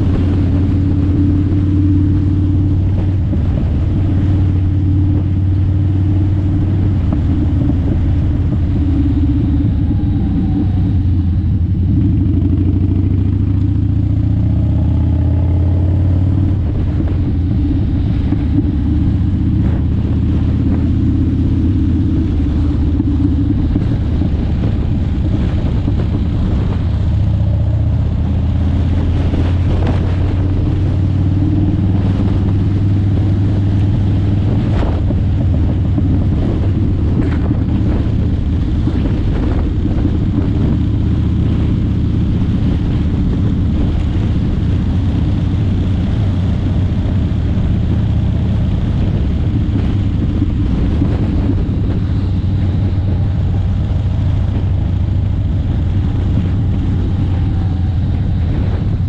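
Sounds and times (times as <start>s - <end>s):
tyre and wind noise: 0.0s - 59.0s
vehicle engine droning: 0.0s - 59.0s.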